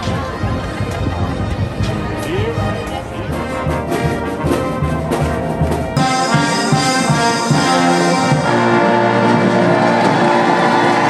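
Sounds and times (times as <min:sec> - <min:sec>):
brass band playing a march: 0:00.0 - 0:11.0.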